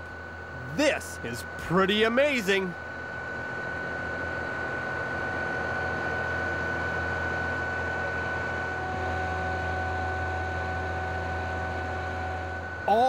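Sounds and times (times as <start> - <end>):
high whine: 0.0 - 13.0.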